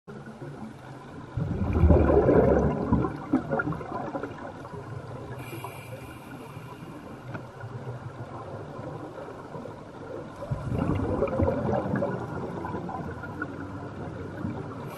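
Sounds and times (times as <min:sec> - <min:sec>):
steady underwater wash: 0:00.1 - 0:14.9
underwater bubbles from exhaled breath: 0:00.1 - 0:14.9.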